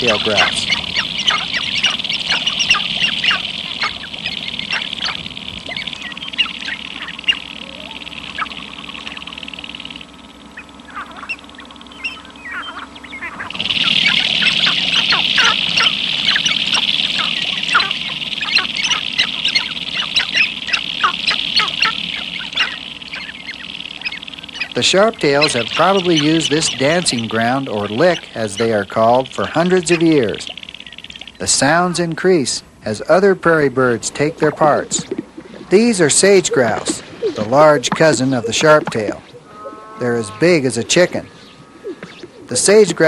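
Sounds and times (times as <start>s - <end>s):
grouse clucks and cackles: 0.0s - 32.2s, 32.8s - 43.0s
high grouse chorus: 0.0s - 43.0s.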